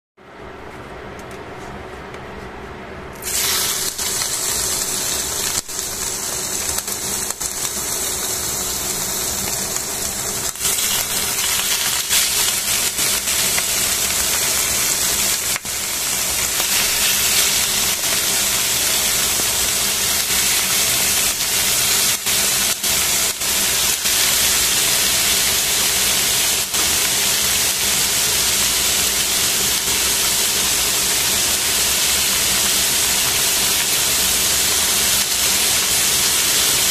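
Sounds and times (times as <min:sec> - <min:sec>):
meat sizzling in hot oil: 0:03.2 - 0:36.9.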